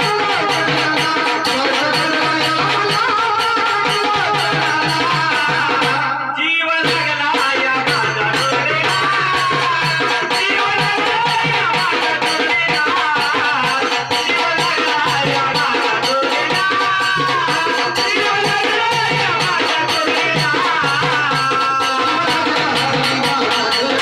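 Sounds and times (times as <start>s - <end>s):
hand percussion rhythm: 0.0s - 24.0s.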